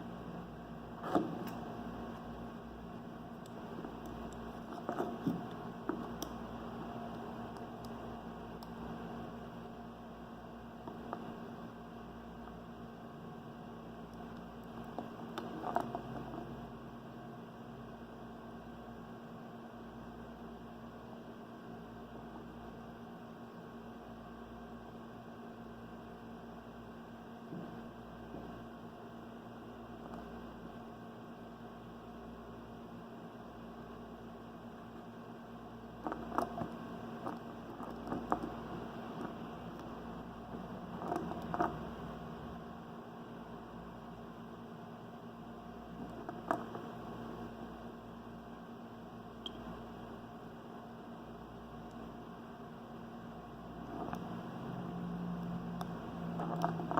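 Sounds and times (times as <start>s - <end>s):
low electrical hum: 0.0s - 56.9s.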